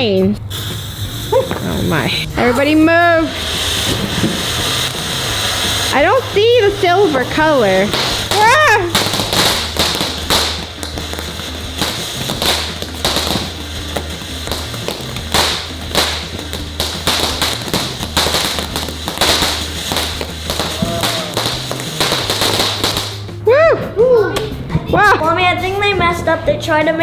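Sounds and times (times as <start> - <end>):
firework hissing and popping: 0.4 - 23.4.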